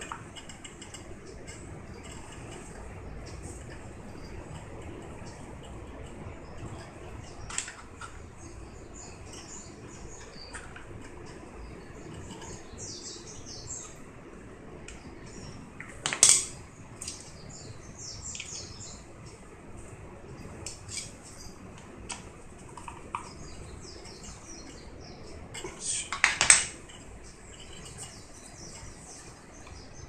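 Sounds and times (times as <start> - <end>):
low steady background hum: 0.0 - 30.0
small birds chirping: 0.0 - 30.0.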